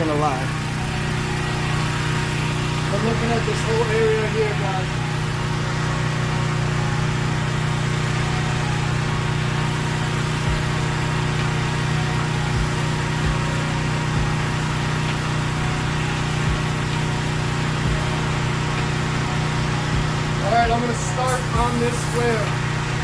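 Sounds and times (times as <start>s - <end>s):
pressure washer engine humming: 0.0s - 23.0s.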